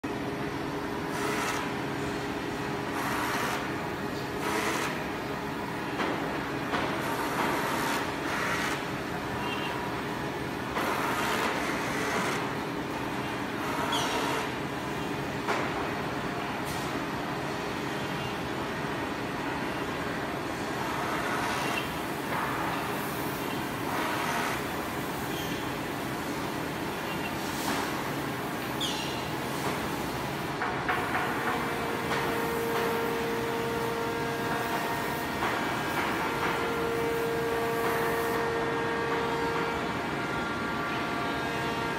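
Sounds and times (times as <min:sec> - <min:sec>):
machine motors and pump humming: 0:00.0 - 0:41.9.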